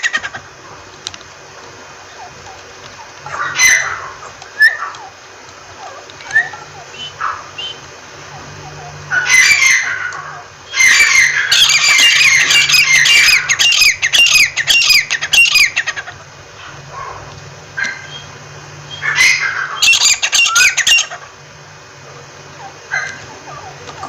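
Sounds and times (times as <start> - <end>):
francolin calling: 1.8 - 24.0.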